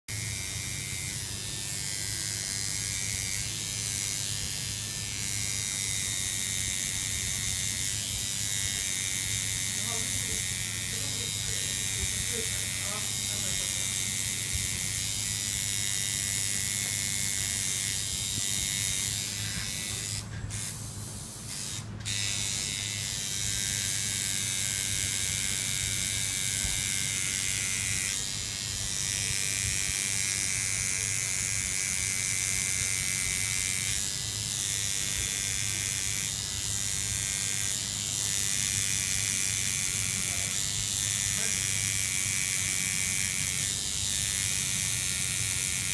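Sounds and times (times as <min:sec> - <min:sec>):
tattoo machine buzzing: 0:00.1 - 0:45.9.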